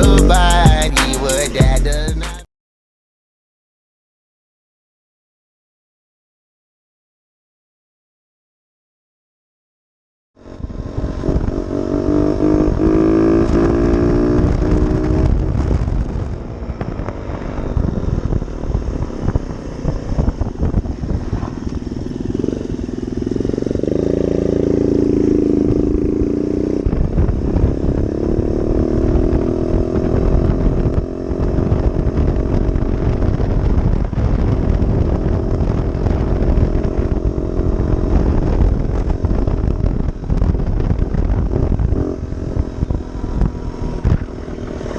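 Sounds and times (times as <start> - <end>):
dirt bike engine revving: 0.0 - 2.4, 10.4 - 44.9.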